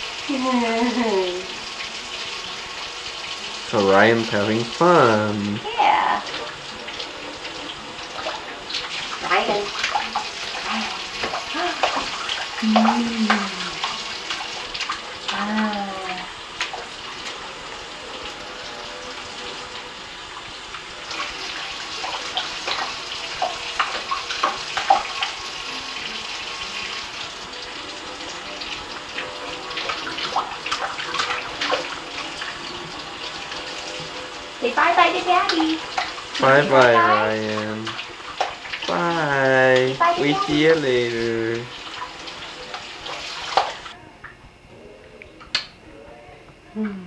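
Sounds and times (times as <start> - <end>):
water splashing in a metal sink: 0.0 - 44.0.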